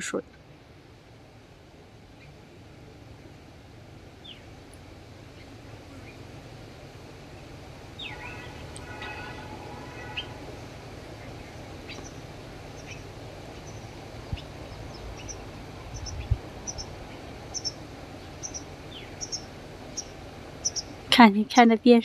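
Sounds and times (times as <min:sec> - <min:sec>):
steady outdoor hiss: 0:00.0 - 0:22.0
small birds chirping: 0:01.8 - 0:21.9.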